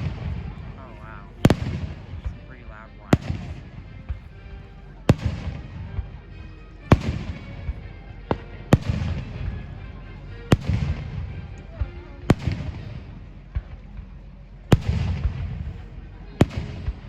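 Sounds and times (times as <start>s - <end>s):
fireworks bangs with rumble: 0.0s - 4.3s, 5.1s - 6.1s, 6.9s - 9.6s, 10.5s - 14.1s, 14.7s - 17.0s.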